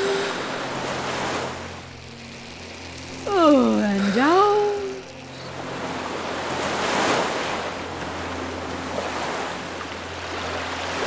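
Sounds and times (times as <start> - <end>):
ocean waves washing in: 0.0 - 2.0, 2.6 - 11.0.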